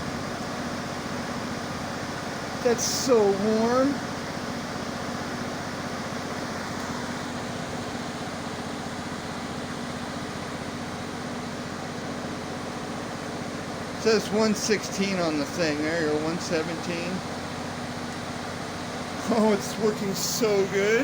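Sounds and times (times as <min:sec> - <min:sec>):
diesel generator engine running: 0:00.0 - 0:21.0
radiator fan blowing: 0:00.0 - 0:21.0.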